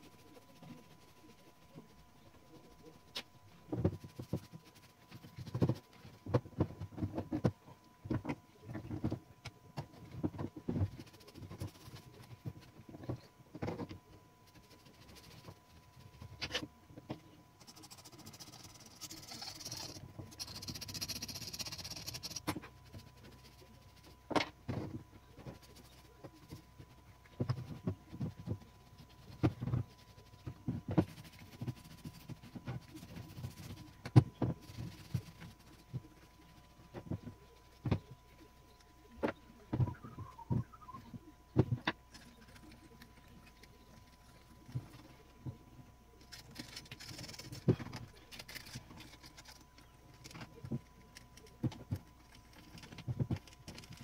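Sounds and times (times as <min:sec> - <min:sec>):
faint steady whine: 0:00.0 - 0:54.0.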